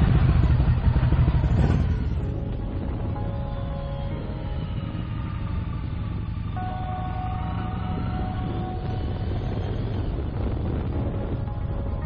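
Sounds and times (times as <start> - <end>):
motorcycle engine rumble: 0.0 - 12.0
wind: 0.0 - 12.0.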